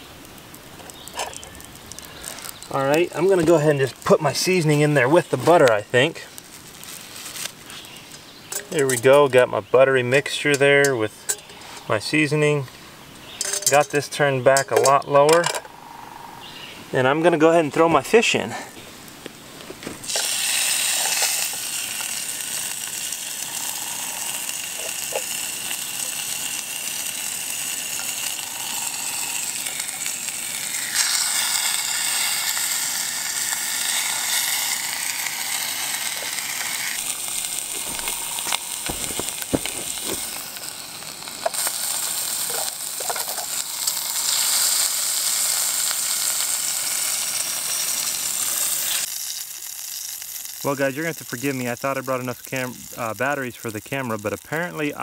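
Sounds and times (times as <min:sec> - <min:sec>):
fish sizzling in butter: 0:00.1 - 0:09.2, 0:20.0 - 0:55.0.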